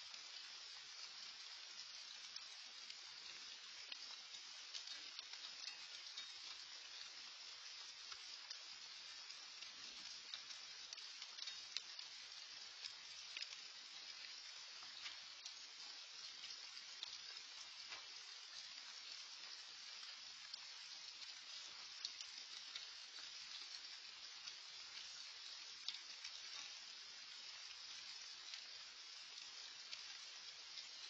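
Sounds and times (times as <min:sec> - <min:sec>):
raindrops ticking: 0:00.0 - 0:31.0
steady rain hiss: 0:00.0 - 0:31.0.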